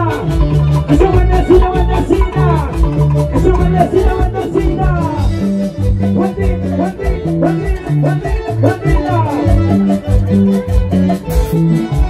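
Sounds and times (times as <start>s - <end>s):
band music over loudspeakers: 0.0s - 12.0s.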